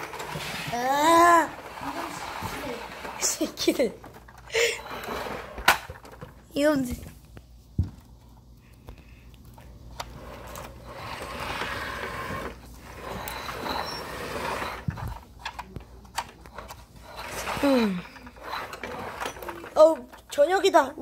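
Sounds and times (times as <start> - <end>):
rustling of toys and basket: 0.0 - 21.0.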